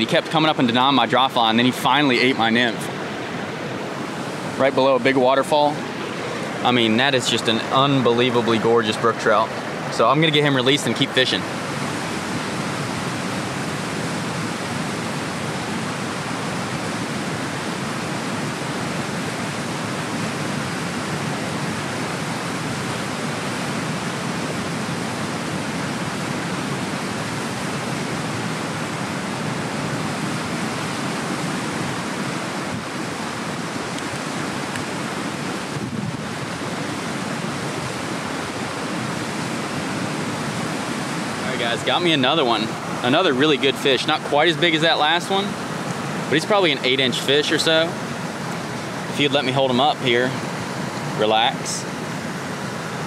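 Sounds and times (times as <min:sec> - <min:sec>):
creek rushing over waterfall: 0:00.0 - 0:53.0.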